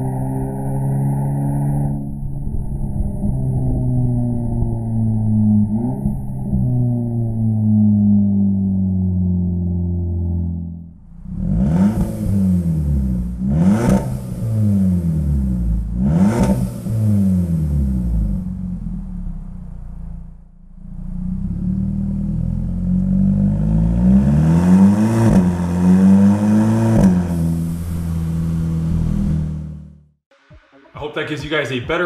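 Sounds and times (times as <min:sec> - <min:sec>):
car exhaust engine note: 0:00.0 - 0:31.2
exhaust cracks: 0:00.0 - 0:31.3.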